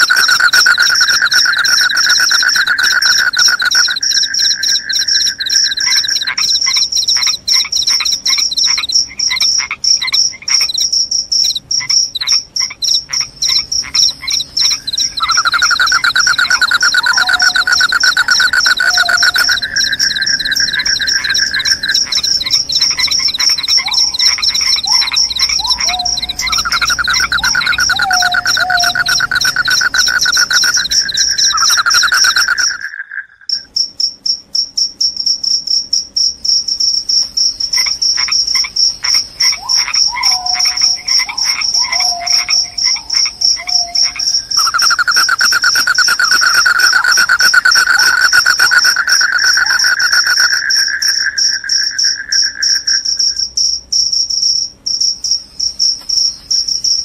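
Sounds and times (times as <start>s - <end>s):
crickets high trilling: 0.0s - 57.0s
lower insect trill: 0.0s - 57.0s.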